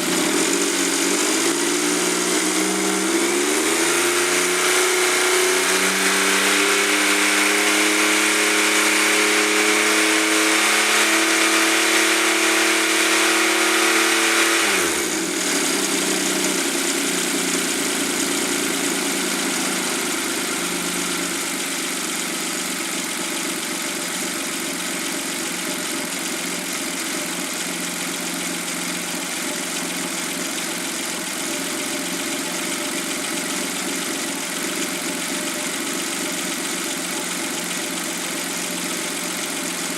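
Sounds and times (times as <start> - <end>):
engine revving and idling: 0.0 - 39.9.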